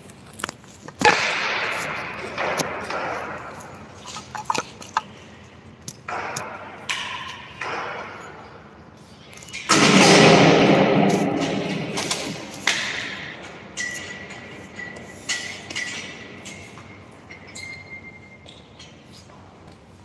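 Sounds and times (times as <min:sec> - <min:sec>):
hardware clicks and knocks: 0:00.4 - 0:08.6, 0:09.3 - 0:19.0.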